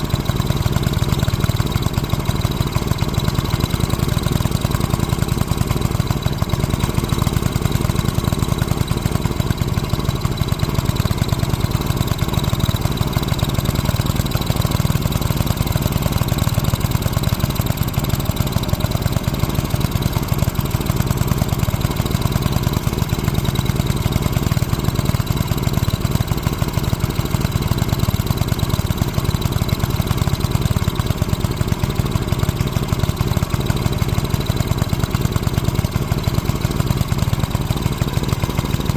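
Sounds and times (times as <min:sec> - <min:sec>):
small gasoline engine idling: 0:00.0 - 0:38.9.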